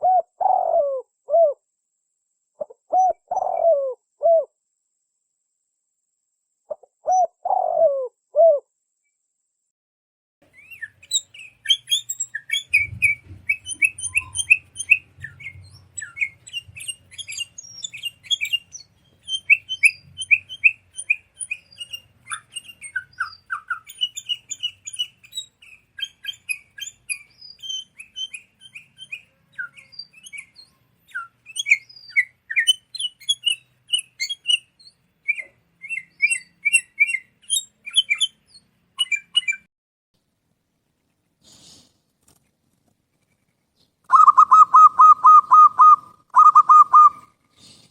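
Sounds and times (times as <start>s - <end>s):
songbird chirping: 0.0s - 1.6s, 2.5s - 4.6s, 6.6s - 9.2s, 10.4s - 39.7s, 43.4s - 47.4s.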